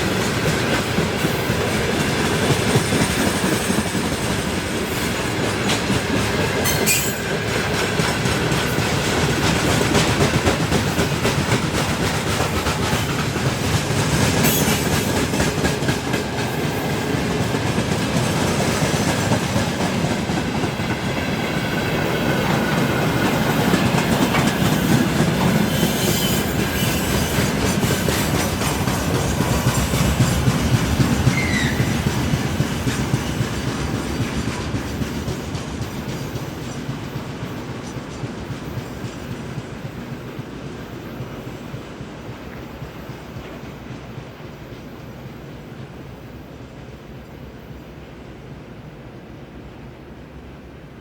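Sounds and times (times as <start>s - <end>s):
train wheels clattering over rail joints: 0.0s - 44.3s.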